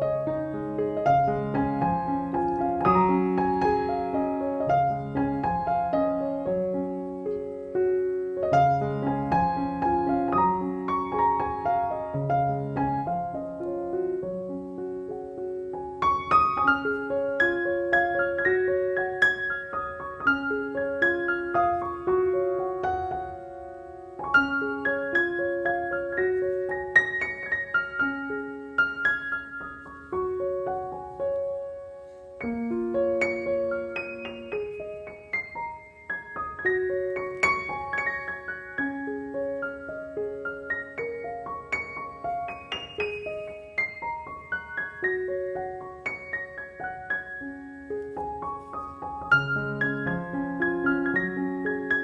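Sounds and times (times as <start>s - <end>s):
gentle piano music: 0.0s - 52.0s.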